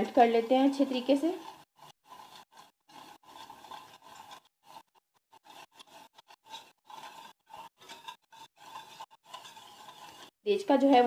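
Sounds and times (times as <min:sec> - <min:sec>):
spoon scraping in bowl: 0:00.7 - 0:10.4.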